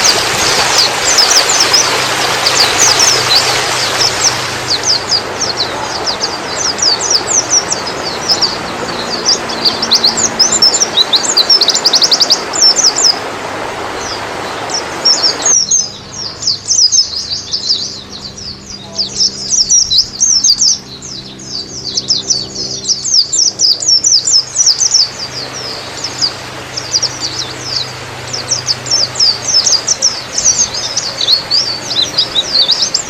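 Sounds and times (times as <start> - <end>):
bird chirping and twittering: 0.0 - 33.0.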